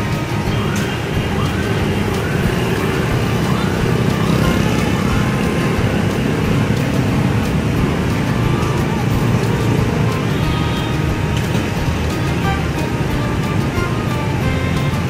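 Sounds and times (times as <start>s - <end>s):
motorbikes and scooters passing: 0.0s - 15.0s.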